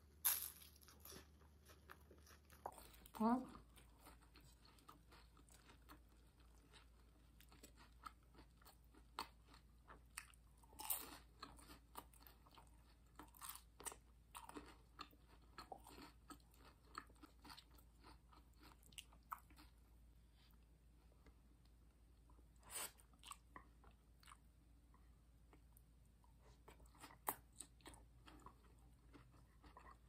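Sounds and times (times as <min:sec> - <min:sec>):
person chewing food: 0:00.8 - 0:30.0.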